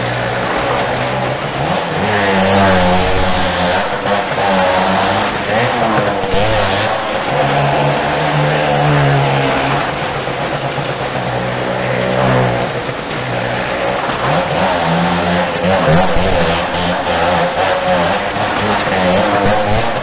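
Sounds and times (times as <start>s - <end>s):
car engine revving hard: 0.0s - 20.0s
other engines running: 0.0s - 20.0s.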